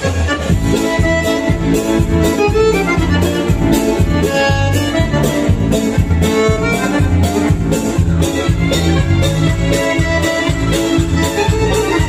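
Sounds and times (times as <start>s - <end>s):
accordion dance tune: 0.0s - 12.0s
steady bass beat: 0.3s - 12.0s.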